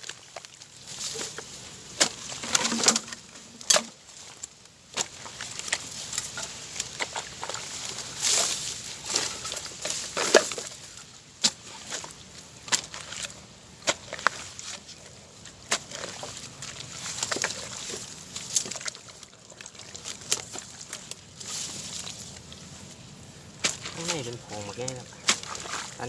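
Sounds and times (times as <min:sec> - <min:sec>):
sloshing and squelching in mud: 0:00.0 - 0:26.0.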